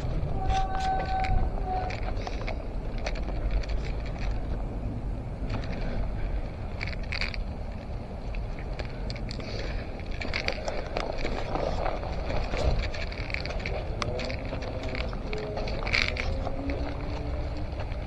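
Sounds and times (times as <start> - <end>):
small crackles and clicks: 0.0 - 4.8, 5.4 - 18.0
wind and camera handling rumble: 0.0 - 18.0.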